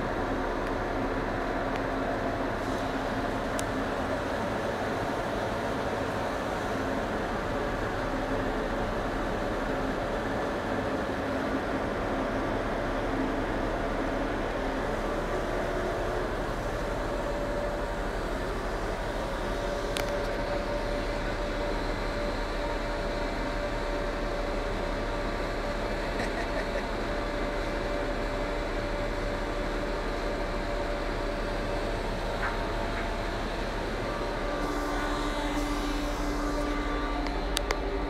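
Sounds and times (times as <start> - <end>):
machinery drone: 0.0 - 38.0.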